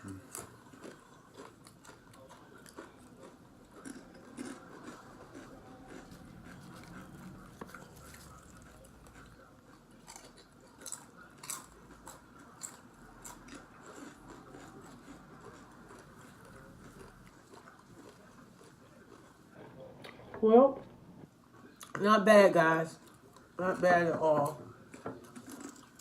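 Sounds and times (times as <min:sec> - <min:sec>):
person chewing crunchy chips: 0:00.0 - 0:19.6, 0:23.0 - 0:26.0.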